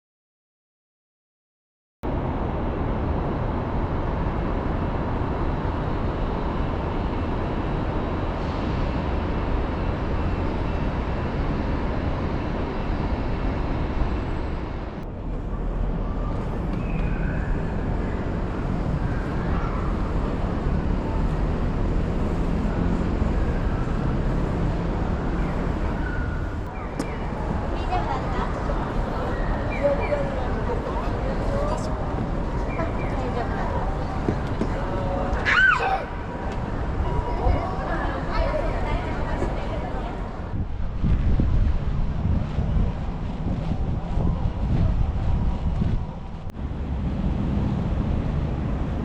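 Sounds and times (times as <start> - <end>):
road traffic noise: 2.1 - 49.0.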